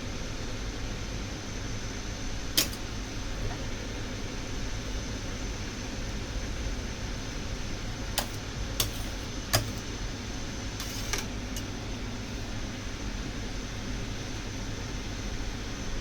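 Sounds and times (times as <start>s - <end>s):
fan-like hum: 0.0s - 16.0s.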